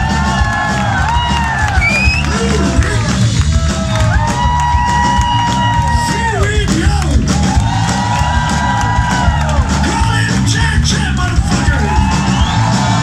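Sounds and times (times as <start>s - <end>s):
live punk rock band: 0.0s - 13.0s.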